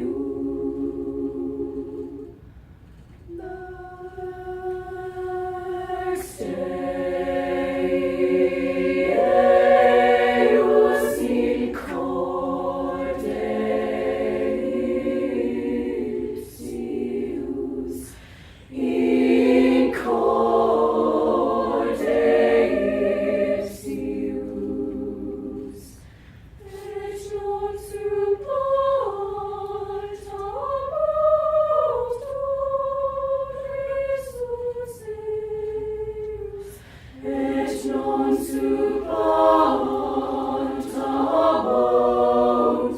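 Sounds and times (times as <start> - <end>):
choir singing in harmony: 0.0 - 2.7, 3.3 - 42.9.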